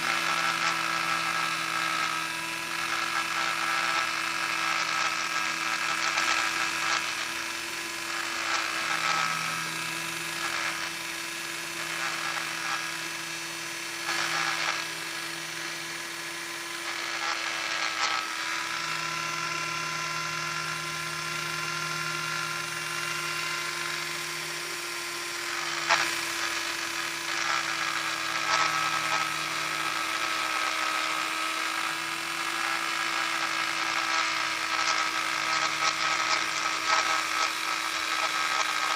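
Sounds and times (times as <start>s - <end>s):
electric sander running: 0.0s - 38.9s
sander scraping: 0.0s - 38.9s.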